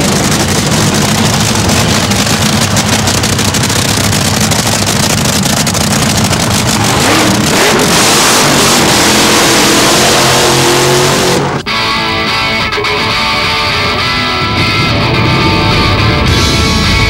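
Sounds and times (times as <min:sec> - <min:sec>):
dragster engine roaring and crackling: 0:00.0 - 0:17.0.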